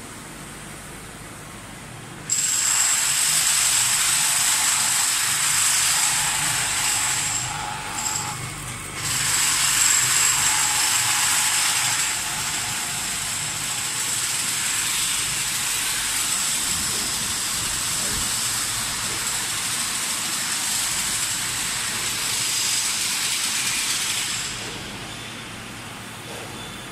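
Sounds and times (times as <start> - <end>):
machinery hiss with high whine: 0.0 - 26.9.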